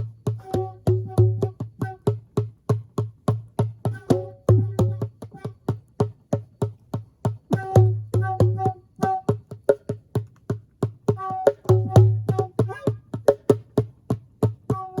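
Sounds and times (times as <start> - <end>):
djembe played by hand: 0.0 - 15.0.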